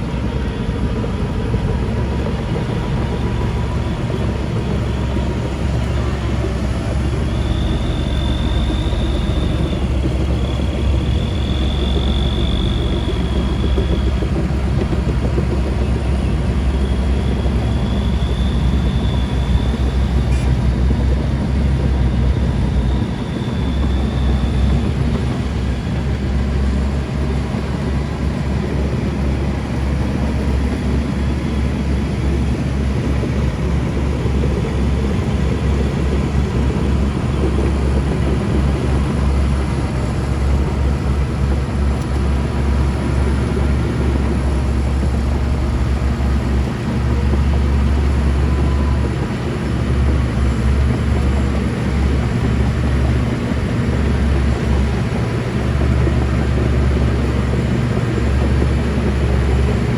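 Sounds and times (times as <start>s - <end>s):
heavy diesel machinery engine rumble: 0.0s - 59.9s.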